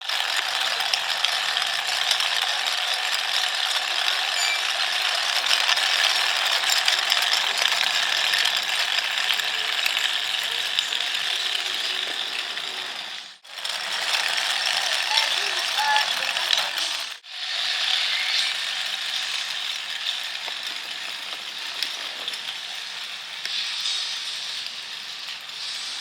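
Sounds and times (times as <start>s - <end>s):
small motor driving gears: 0.0s - 26.0s.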